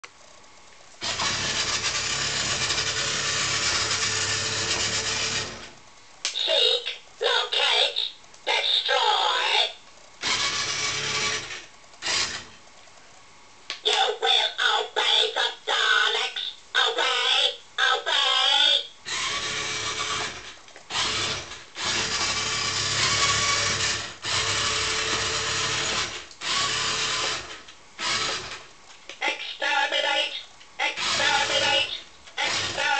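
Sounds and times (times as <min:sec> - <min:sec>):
toy rasping whirr: 0:01.0 - 0:05.7, 0:06.4 - 0:12.6, 0:13.9 - 0:28.7, 0:30.8 - 0:32.9.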